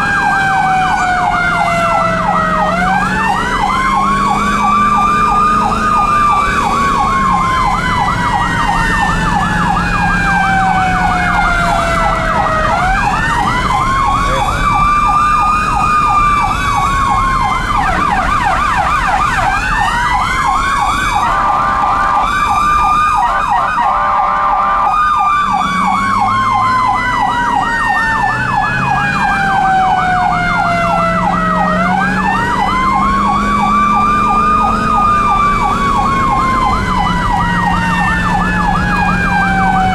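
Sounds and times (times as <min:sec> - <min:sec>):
siren wail: 0:00.0 - 0:39.9
siren yelp warble: 0:00.0 - 0:39.9.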